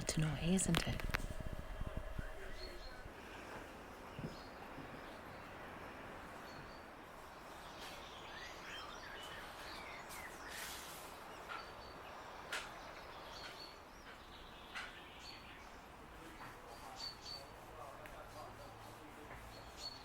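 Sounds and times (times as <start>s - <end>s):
small birds chirping: 1.9s - 20.0s.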